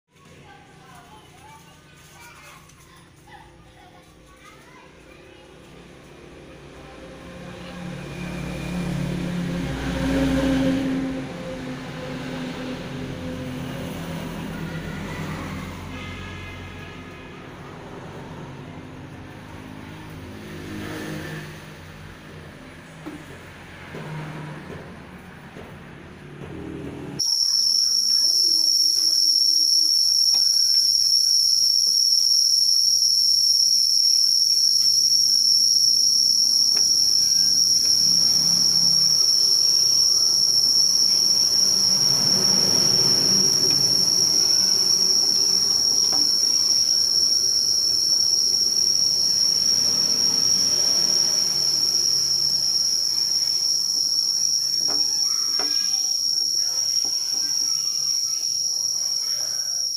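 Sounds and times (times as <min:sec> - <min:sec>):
high-pitched insect drone: 0:05.5 - 0:17.2, 0:17.8 - 0:22.1, 0:27.2 - 0:59.9.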